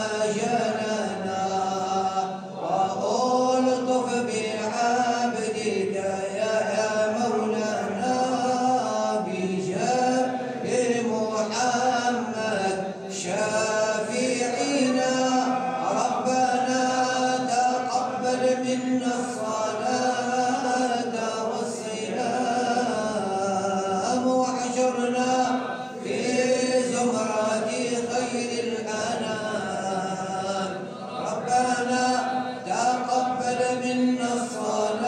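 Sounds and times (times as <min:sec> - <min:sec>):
devotional chanting: 0:00.0 - 0:35.0.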